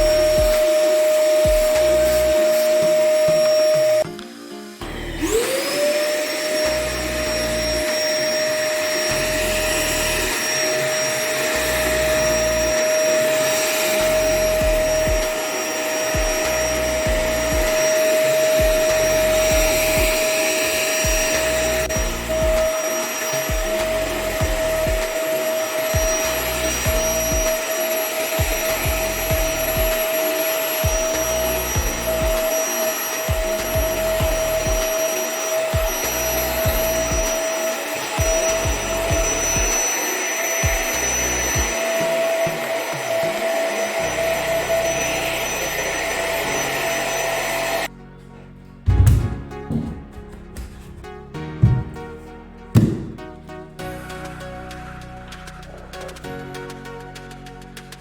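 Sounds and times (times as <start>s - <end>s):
vacuum cleaner motor whining: 0.0s - 47.9s.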